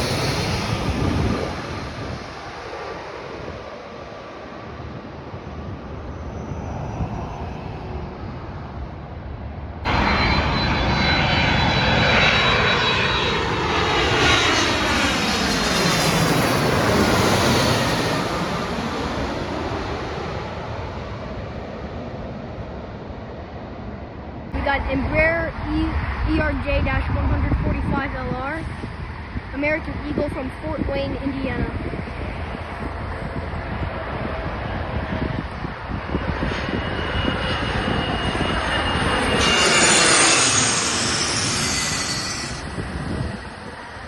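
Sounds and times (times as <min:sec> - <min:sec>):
jet airliner passing: 0:00.0 - 0:44.0
windy rumble: 0:00.0 - 0:44.0.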